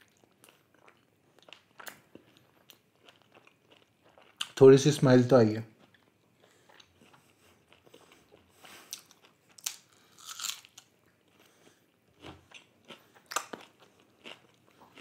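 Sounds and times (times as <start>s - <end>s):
person chewing food: 0.0s - 4.6s, 5.7s - 15.0s.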